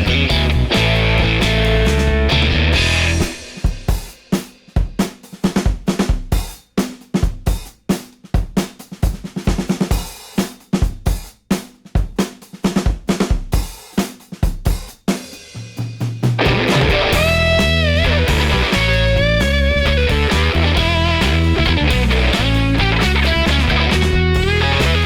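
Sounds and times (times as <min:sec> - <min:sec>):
drum kit playing busy beat: 0:00.0 - 0:25.0.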